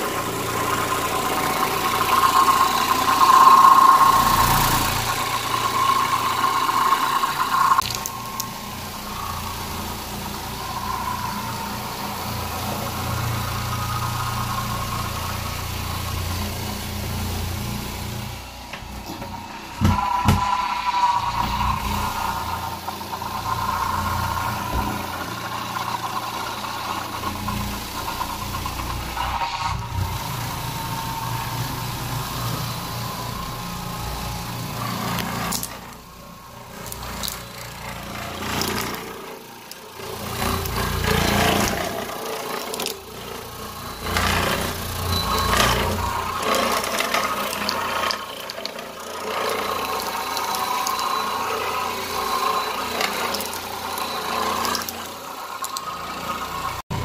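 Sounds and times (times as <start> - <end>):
carpet cleaning machine running: 0.0 - 57.0.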